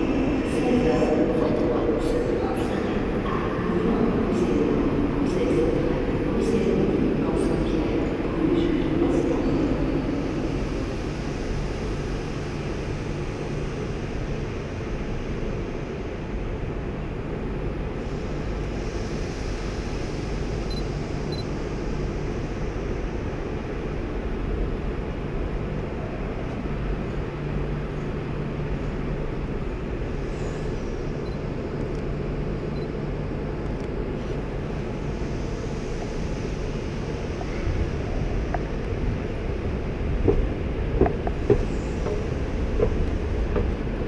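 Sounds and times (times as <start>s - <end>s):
electric train rumble: 0.0s - 44.0s.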